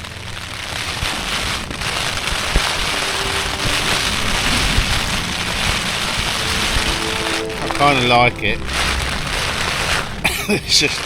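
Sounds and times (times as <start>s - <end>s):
heavy rain on tent: 0.0s - 11.0s.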